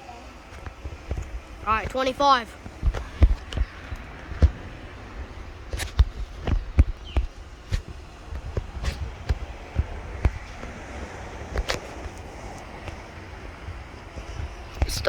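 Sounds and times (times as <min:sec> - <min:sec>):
wind rumbling on microphone: 0:00.0 - 0:15.0
sharp knocks and clicks: 0:00.5 - 0:13.0.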